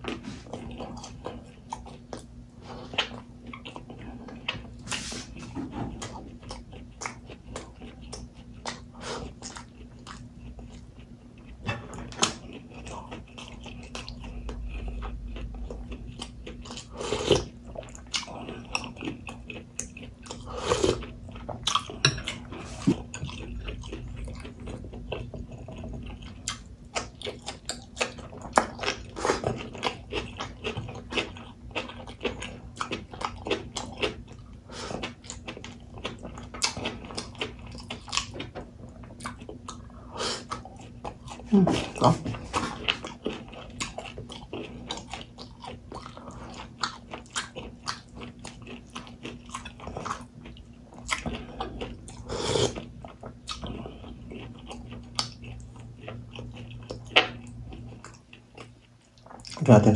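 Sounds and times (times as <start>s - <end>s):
person chewing food: 0.0s - 59.6s
steady low hum: 0.0s - 59.9s.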